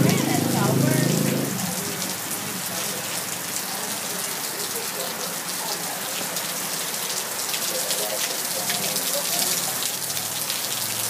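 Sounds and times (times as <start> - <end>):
heavy rain on concrete: 0.0 - 11.0
water running off a roof: 0.0 - 11.0.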